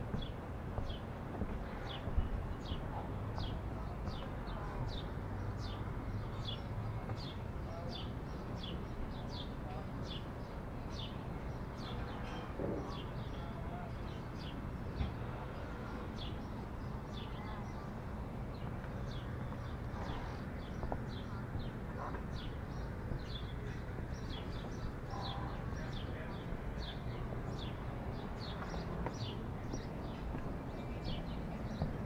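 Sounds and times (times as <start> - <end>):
low street hum: 0.0 - 32.0.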